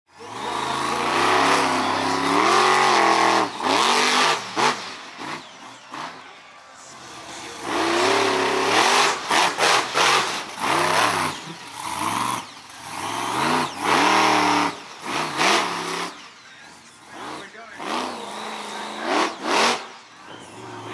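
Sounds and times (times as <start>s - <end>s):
monster truck engine revving: 0.1s - 20.9s.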